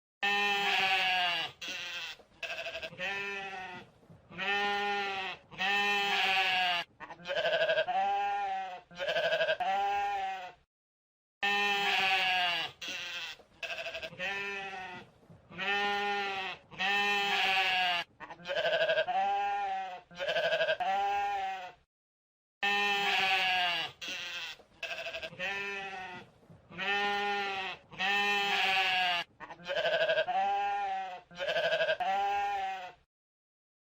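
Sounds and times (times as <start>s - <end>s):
sheep bleating: 0.2s - 10.7s, 11.4s - 21.8s, 22.6s - 33.1s.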